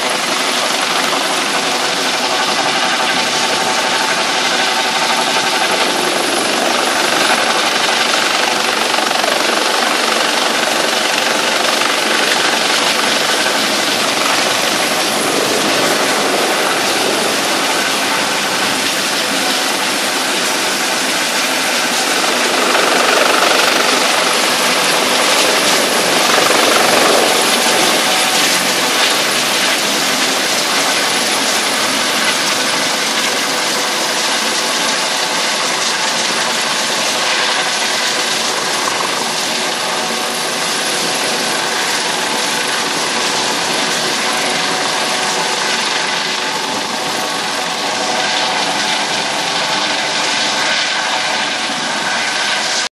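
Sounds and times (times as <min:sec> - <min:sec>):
helicopter hovering: 0:00.0 - 0:52.9.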